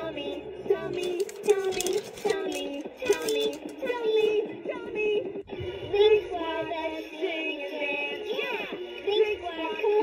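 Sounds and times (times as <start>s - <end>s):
toy playing children's song: 0.0s - 10.0s.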